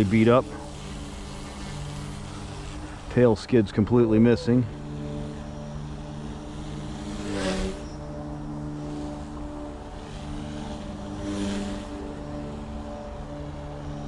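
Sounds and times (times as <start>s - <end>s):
rc helicopter motor and rotor hum: 0.0s - 14.0s.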